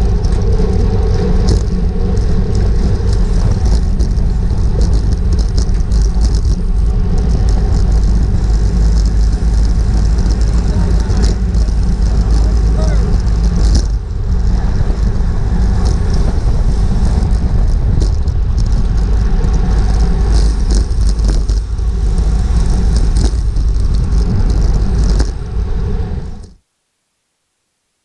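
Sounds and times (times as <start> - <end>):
small clicks and knocks from bike: 0.0 - 25.5
wind buffeting microphone: 0.0 - 26.5
road and tyre rumble: 0.0 - 26.7.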